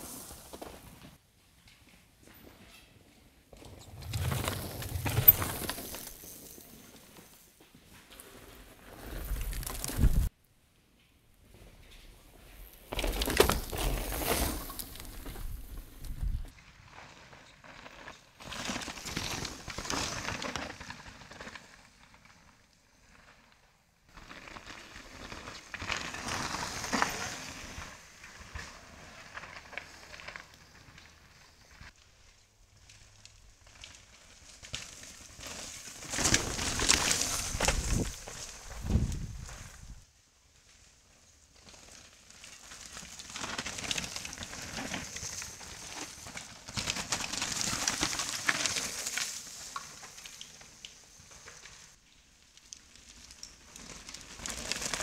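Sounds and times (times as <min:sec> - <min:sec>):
bike tyres skidding over dirt: 0:00.0 - 0:01.2, 0:03.6 - 0:10.3, 0:12.3 - 0:55.0.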